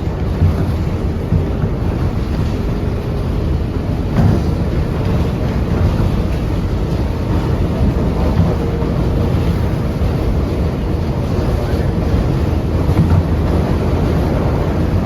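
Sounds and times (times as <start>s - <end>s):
train clunk: 0.0s - 15.0s
train wheels rumbling on rail: 0.0s - 15.0s.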